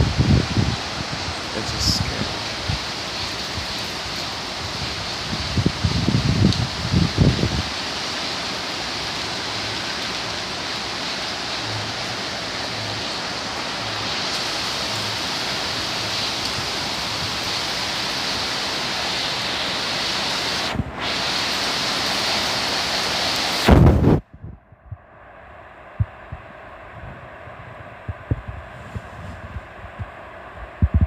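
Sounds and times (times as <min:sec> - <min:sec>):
torrential rain and wind: 0:00.0 - 0:31.0.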